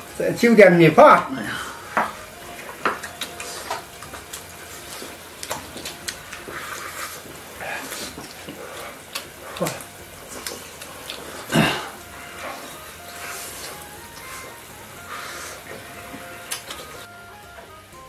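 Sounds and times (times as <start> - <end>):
chewing: 2.0 - 17.1.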